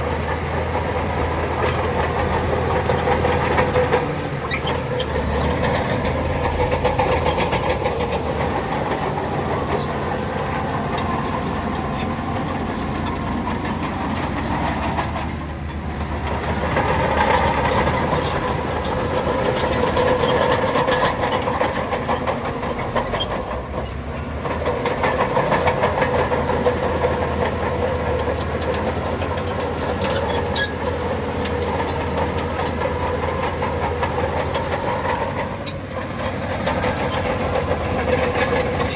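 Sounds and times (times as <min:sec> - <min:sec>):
bulldozer diesel engine under load: 0:00.0 - 0:38.9
steel tracks clanking: 0:00.0 - 0:38.9.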